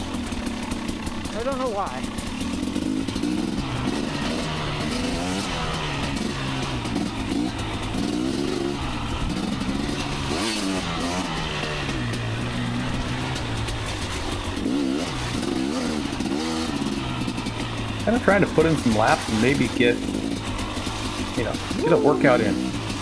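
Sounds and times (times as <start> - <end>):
two-stroke dirt bike engine revving: 0.0 - 23.0.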